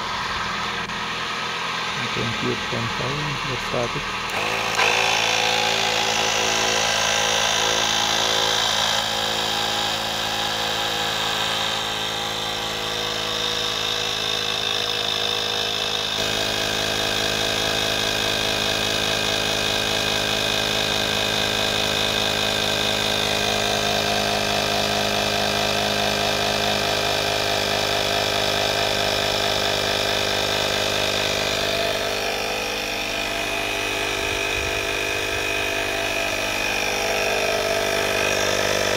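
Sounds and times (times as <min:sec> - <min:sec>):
portable air compressor running: 0:00.0 - 0:38.9.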